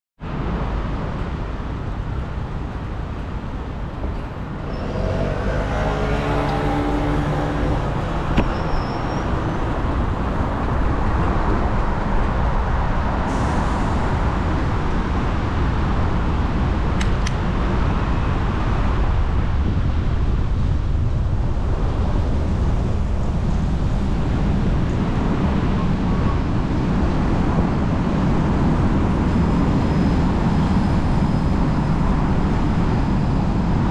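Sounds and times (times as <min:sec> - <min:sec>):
street traffic rumble: 0:00.2 - 0:33.9
passing vehicle engine hum: 0:00.6 - 0:33.9.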